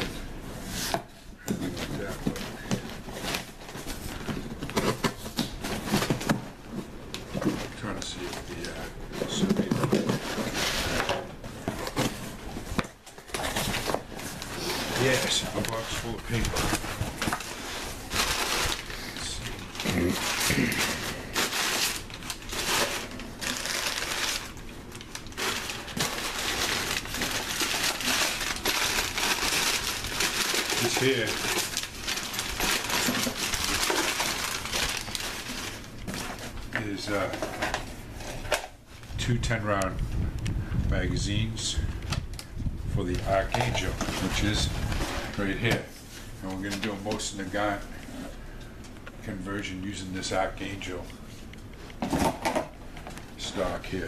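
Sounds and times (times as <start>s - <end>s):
paper rustling and crackling: 0.0s - 39.1s, 43.0s - 47.8s.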